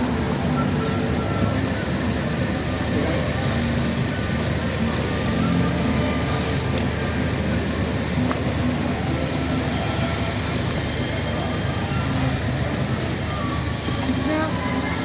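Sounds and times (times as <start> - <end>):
low rumble of vehicles: 0.0 - 15.0.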